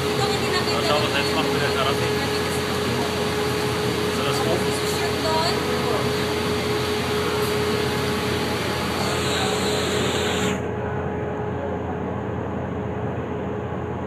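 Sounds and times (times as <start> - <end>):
electric fans running: 0.0 - 14.0
furnace burner roaring: 0.0 - 14.0.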